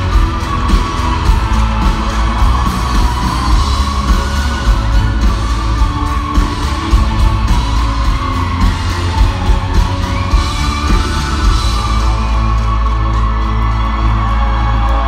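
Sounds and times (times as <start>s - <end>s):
booming bass: 0.0s - 13.9s
rock band playing live: 0.0s - 15.0s.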